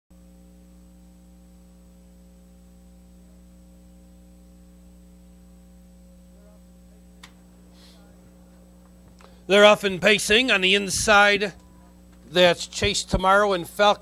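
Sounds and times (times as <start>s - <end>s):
electrical mains hum: 0.1s - 14.0s
faint high whine: 0.1s - 14.0s.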